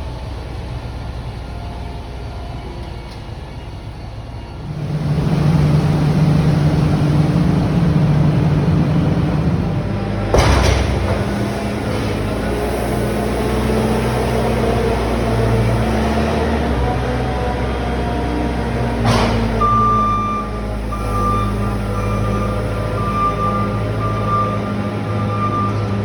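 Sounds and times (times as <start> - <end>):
harvester engine running: 0.0 - 26.0.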